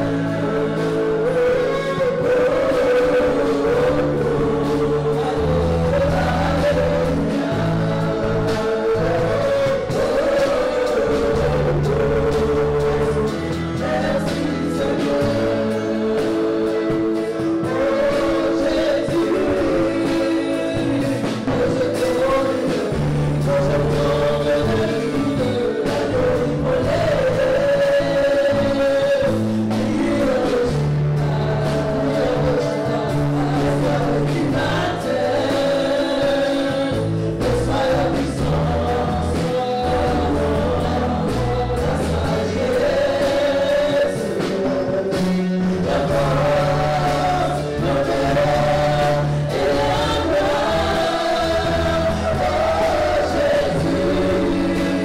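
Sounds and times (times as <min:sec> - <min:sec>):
band with bass and beat: 0:00.0 - 0:55.0
choir singing gospel music: 0:00.0 - 0:55.0.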